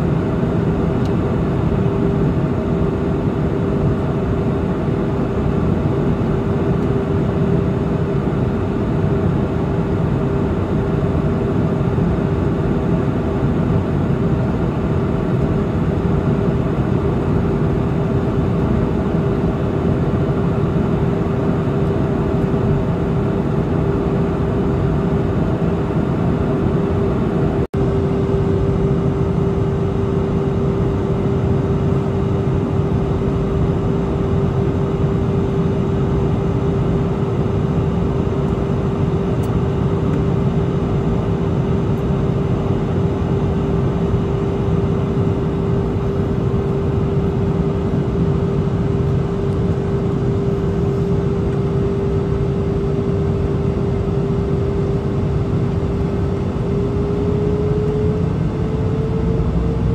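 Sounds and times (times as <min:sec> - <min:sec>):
constant cabin hum: 0:00.0 - 0:59.9
jet engines and airflow rushing: 0:00.0 - 0:59.9.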